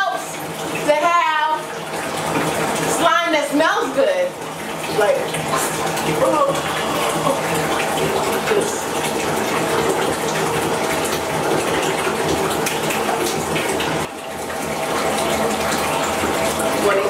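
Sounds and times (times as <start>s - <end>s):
water pouring into bathtub: 0.0s - 17.0s.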